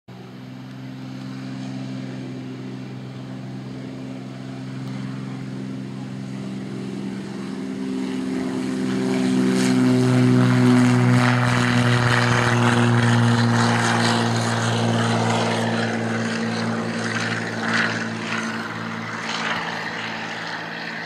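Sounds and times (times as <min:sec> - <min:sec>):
propeller aircraft engine at takeoff power: 0:00.1 - 0:21.0.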